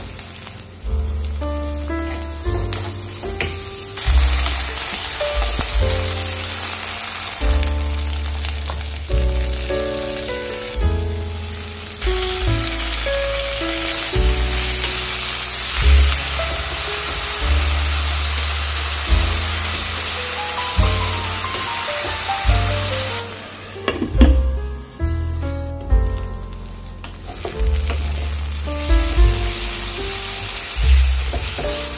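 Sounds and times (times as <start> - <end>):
vegetables sizzling in pan: 0.0 - 25.2, 26.2 - 31.9
background music with bass: 0.0 - 31.9.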